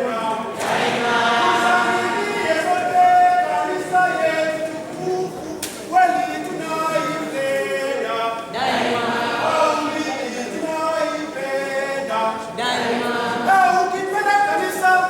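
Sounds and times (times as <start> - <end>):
unaccompanied voices chanting: 0.0 - 15.0.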